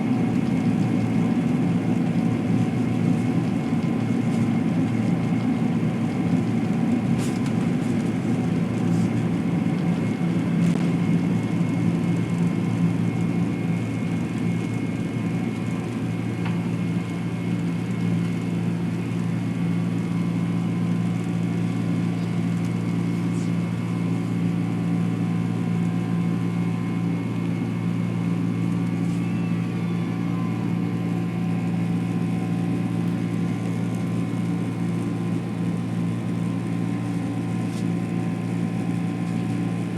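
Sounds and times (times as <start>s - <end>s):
jet engines droning inside cabin: 0.0s - 39.9s.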